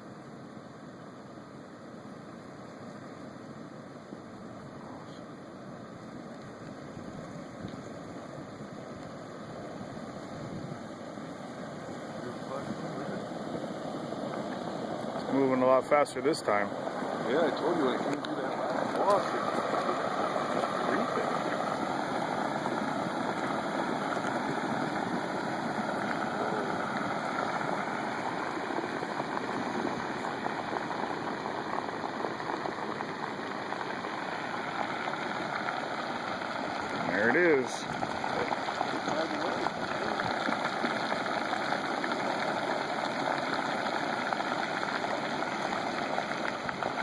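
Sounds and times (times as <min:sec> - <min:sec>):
flood water rushing: 0:04.0 - 0:47.0.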